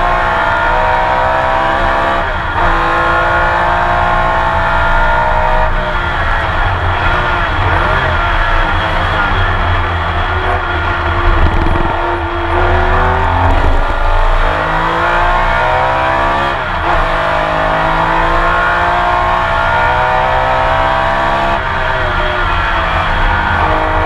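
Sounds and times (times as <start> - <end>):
racing engine accelerating: 0.0 - 24.0.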